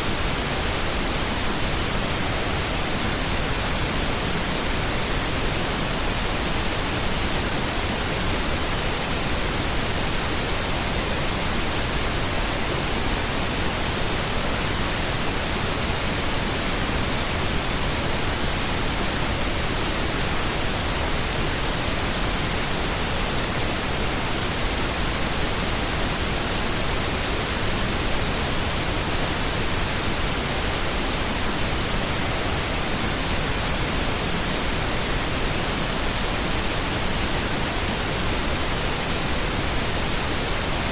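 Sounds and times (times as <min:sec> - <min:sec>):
steady pink noise hiss: 0:00.0 - 0:40.9.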